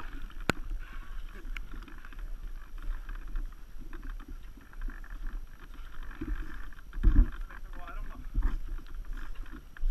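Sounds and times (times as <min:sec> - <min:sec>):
faint ticks: 0:00.0 - 0:09.9
wind rumble on microphone: 0:00.0 - 0:09.9.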